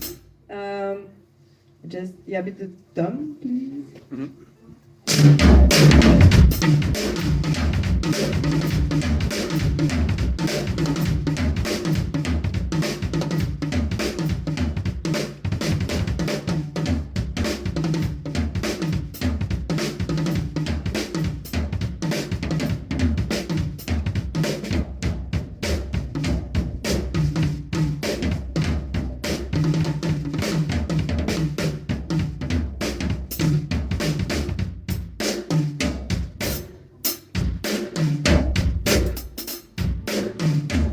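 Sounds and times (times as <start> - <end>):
drum kit groove: 0.0 - 0.3, 5.1 - 40.9.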